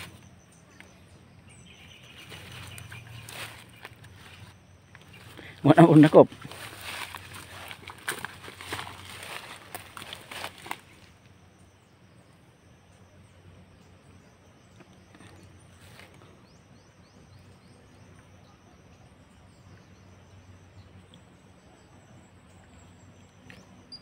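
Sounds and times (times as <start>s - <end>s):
high insect drone: 0.0s - 24.0s
low hum: 0.0s - 24.0s.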